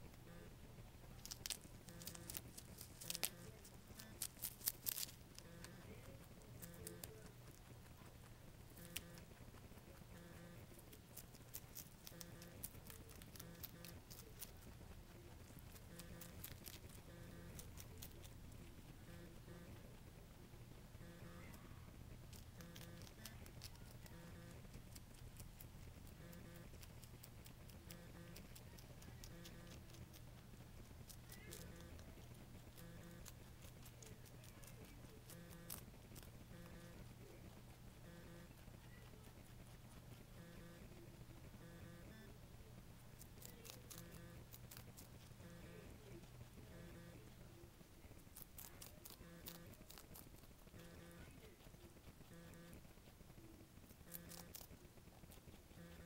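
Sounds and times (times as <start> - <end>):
rabbit chewing cabbage leaf: 0.0 - 56.0.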